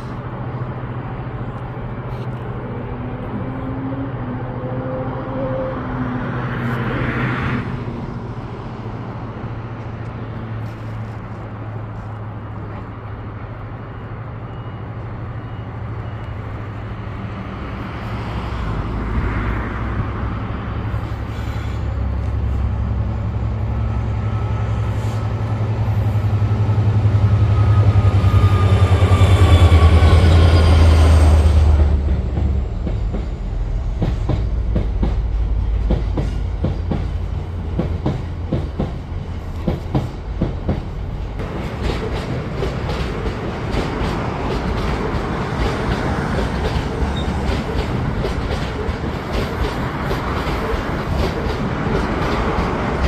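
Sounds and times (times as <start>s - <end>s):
locomotive engine drone with whine: 0.0s - 48.5s.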